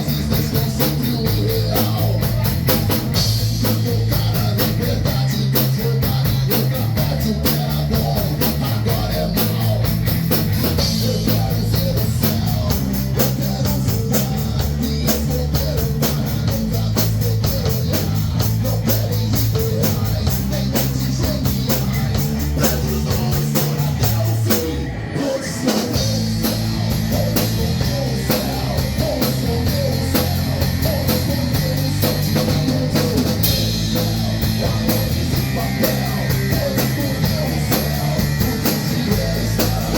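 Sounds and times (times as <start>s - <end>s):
hard rock band playing: 0.0s - 39.9s.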